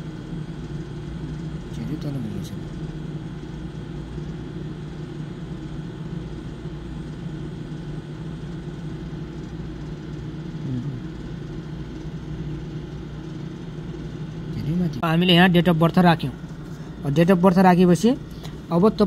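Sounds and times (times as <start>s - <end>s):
low rumbling hum: 0.0s - 19.0s.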